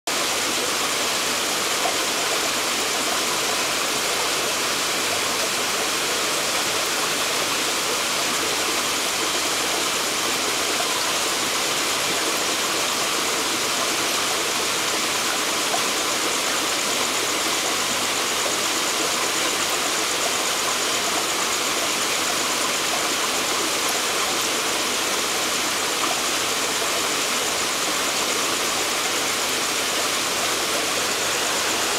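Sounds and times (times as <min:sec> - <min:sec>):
aquarium air bubbles: 0:00.1 - 0:31.9.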